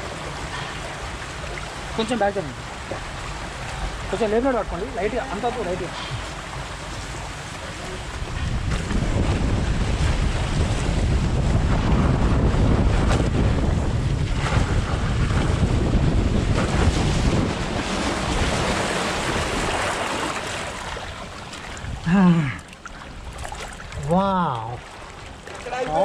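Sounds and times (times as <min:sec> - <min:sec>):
water rushing and splashing: 0:00.0 - 0:26.0
wind buffeting microphone: 0:02.7 - 0:24.2.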